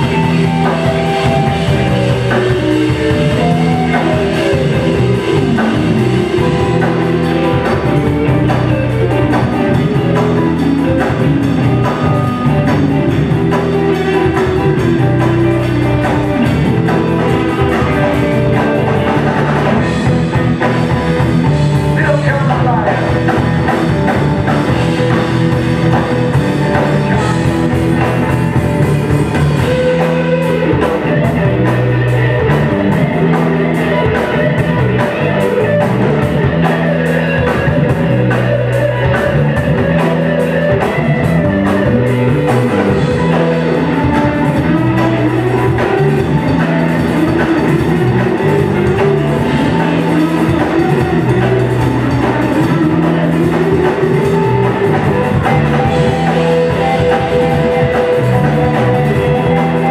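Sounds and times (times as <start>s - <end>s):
bass guitar line: 0.0s - 59.9s
drum kit beat: 0.0s - 59.9s
electric guitar: 0.0s - 59.9s.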